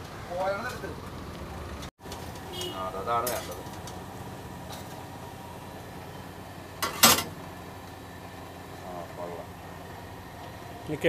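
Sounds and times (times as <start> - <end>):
oil frying sizzle: 0.0 - 11.0.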